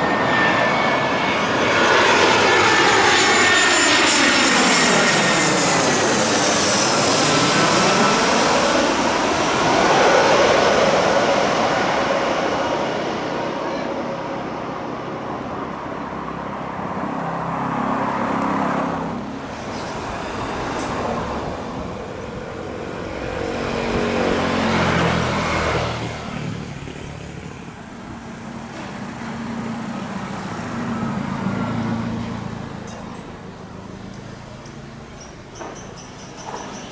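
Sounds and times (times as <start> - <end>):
passing vehicle engines: 0.0 - 36.9.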